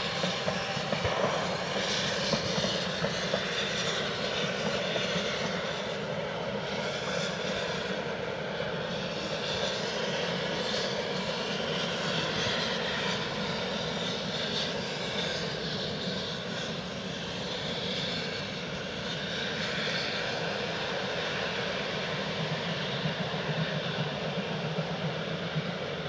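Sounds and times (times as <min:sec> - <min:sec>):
distant train rumble: 0:00.0 - 0:26.0.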